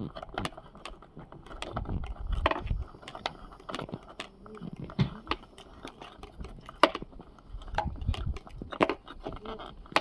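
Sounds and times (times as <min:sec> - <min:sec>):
antenna cable clicks and knocks: 0:00.1 - 0:10.0.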